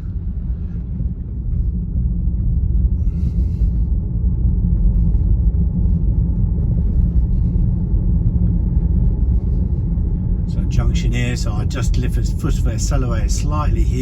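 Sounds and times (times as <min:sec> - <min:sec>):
road and tyre rumble in car: 0:00.0 - 0:14.0.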